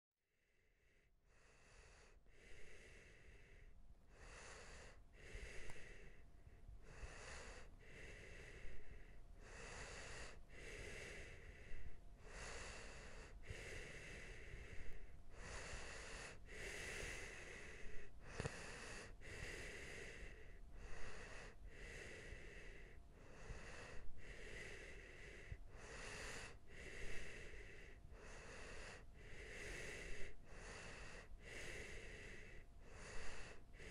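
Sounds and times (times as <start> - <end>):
rapid wheezy breathing: 0.5 - 33.9.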